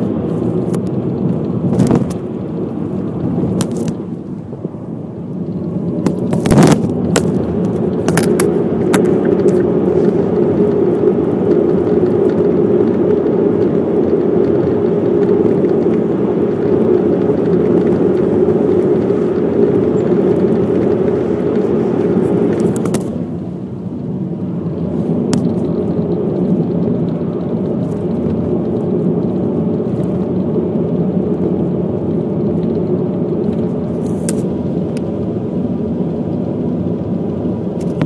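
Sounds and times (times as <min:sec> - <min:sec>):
car engine rumble inside car: 0:00.0 - 0:38.0.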